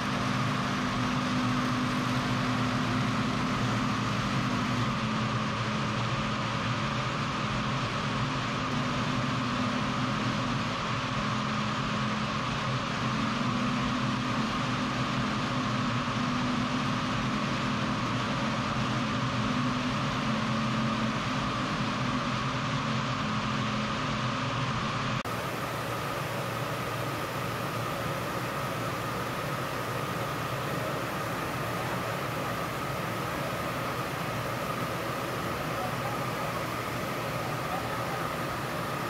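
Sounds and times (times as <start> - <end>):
factory machinery drone: 0.0 - 39.0
high machine whine: 0.0 - 39.0.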